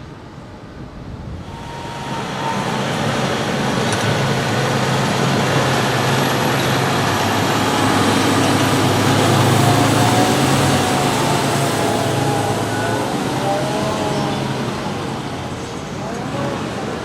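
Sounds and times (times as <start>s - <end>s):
heavy diesel engine running: 1.4s - 17.0s.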